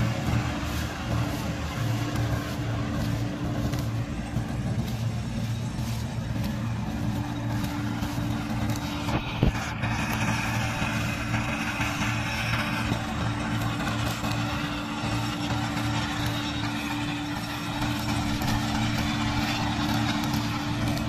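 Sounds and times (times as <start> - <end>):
diesel tractor engine under load: 0.0 - 21.0
straw reaper chopping straw: 0.0 - 21.0.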